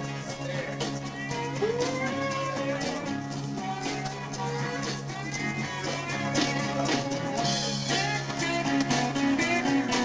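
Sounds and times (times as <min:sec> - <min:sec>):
band playing country music: 0:00.0 - 0:10.0.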